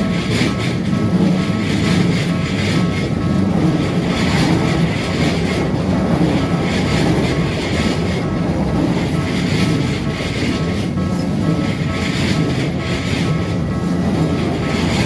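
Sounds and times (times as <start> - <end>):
electric train wheels rumbling on rails: 0.0 - 15.0.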